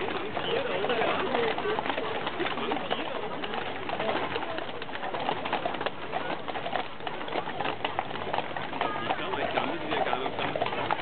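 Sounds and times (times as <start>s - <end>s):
crowd murmur: 0.0s - 11.0s
horse hooves clopping on asphalt: 0.0s - 11.0s.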